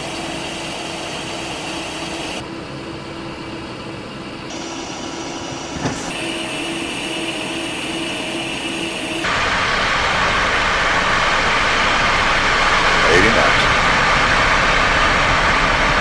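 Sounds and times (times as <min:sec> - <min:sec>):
jet engine running: 0:00.0 - 0:16.0.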